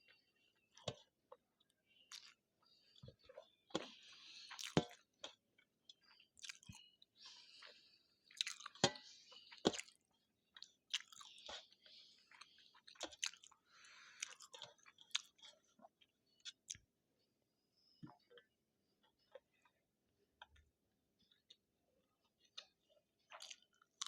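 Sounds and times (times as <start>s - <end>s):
close chewing with mouth smacks: 0.0s - 16.9s, 18.0s - 24.0s.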